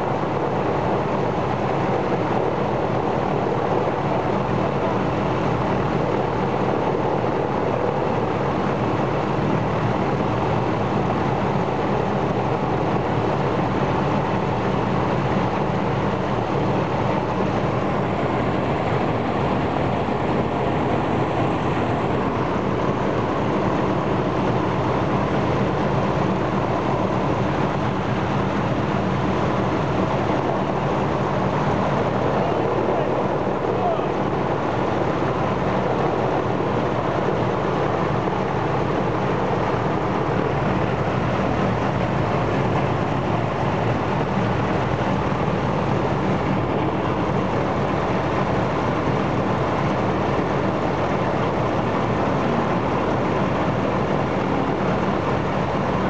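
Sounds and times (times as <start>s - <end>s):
radial engine running: 0.0s - 56.0s.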